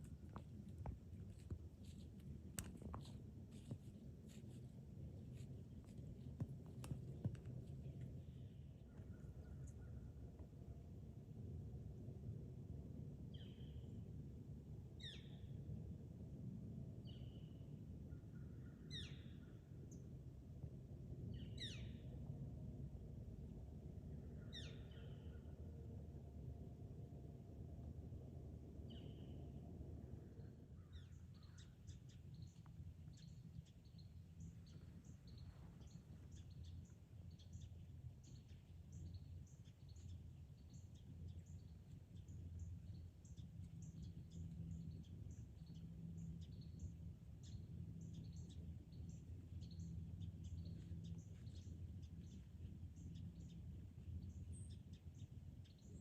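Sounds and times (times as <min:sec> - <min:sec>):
steady low rumble: 0:00.0 - 0:18.8, 0:19.5 - 0:56.0.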